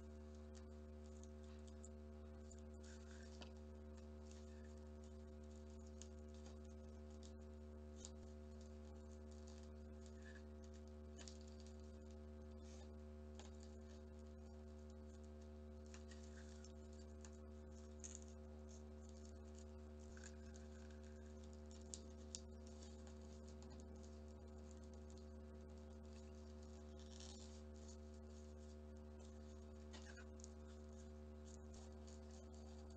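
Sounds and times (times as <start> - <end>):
low hum: 0.0 - 32.9
paper crinkling and ticking: 0.5 - 32.9.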